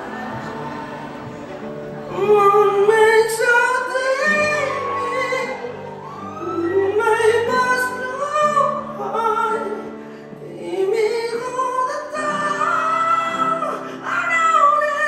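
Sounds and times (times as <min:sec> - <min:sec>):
man singing: 0:02.0 - 0:15.0.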